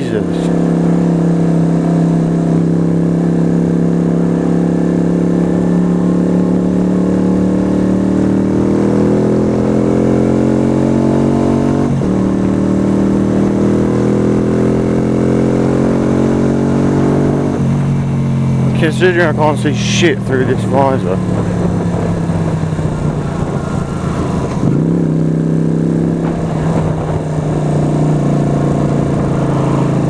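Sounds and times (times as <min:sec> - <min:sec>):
motorcycle engine revving: 0:00.0 - 0:30.0
wind and road noise: 0:00.0 - 0:30.0.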